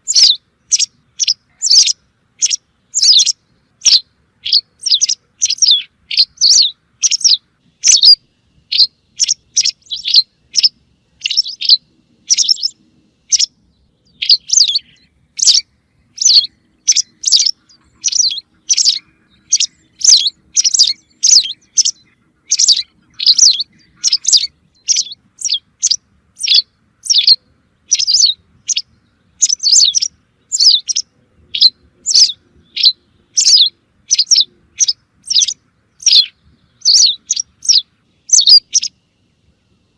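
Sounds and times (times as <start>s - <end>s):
recorded songbird chirps: 0.0s - 39.9s.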